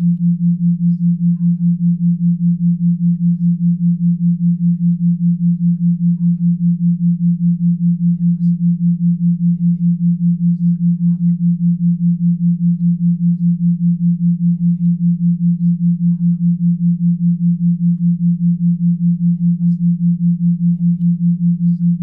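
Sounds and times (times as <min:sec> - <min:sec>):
pulsing low sine tone: 0:00.0 - 0:22.0.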